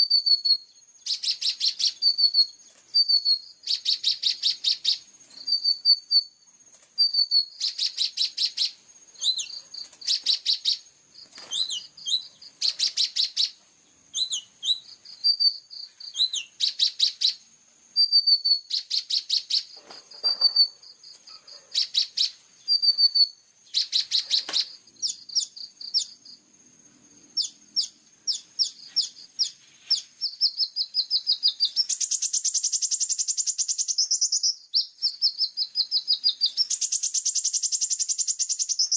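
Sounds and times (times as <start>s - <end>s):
sunbird singing rattling trills: 0.0s - 38.9s.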